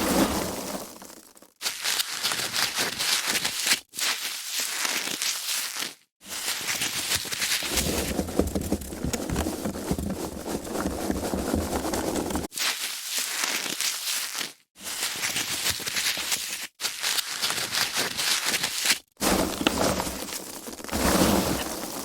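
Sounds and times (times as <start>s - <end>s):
foam packaging crackling: 1.0s - 22.0s.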